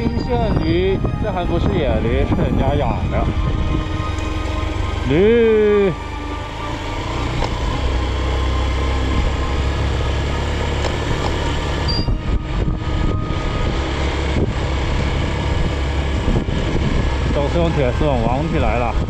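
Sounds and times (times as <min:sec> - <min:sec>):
motorcycle engine running: 0:02.1 - 0:19.0.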